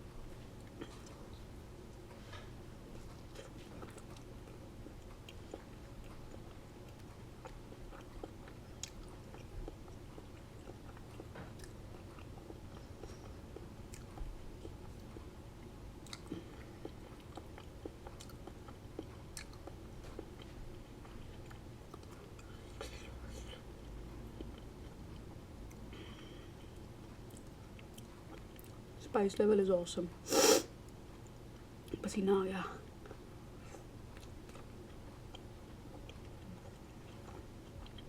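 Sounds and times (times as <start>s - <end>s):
person chewing food: 0.3s - 28.9s, 33.0s - 38.0s.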